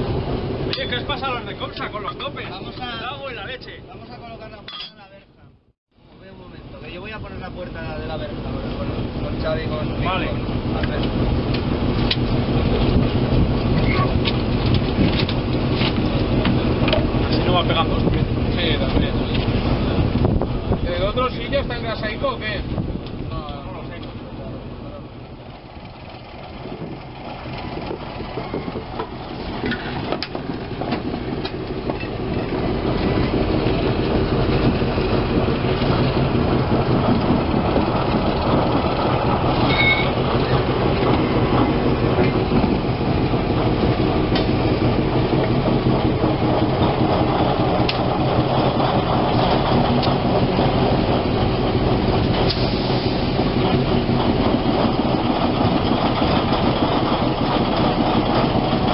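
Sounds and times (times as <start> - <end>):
diesel locomotive engine running: 0.0 - 58.9.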